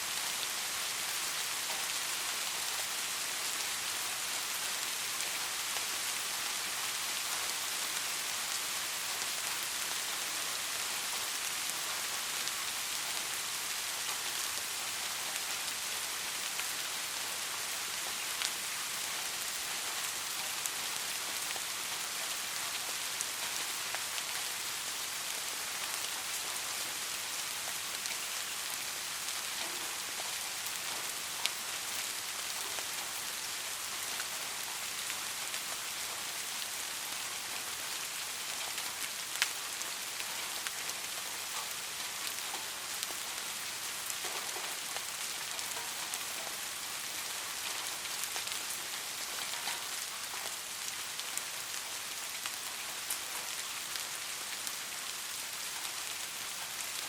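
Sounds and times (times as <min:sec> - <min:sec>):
soft rain hissing: 0:00.0 - 0:57.0.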